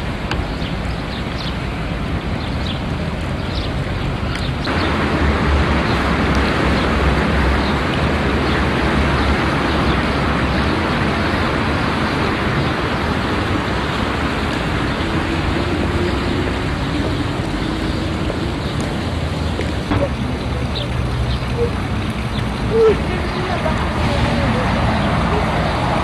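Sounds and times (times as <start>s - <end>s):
steady rushing noise with low rumble: 0.0s - 26.0s.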